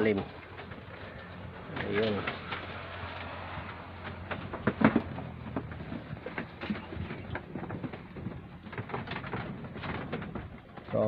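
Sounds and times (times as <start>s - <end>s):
rustling of leaves and stems: 0.0s - 11.0s.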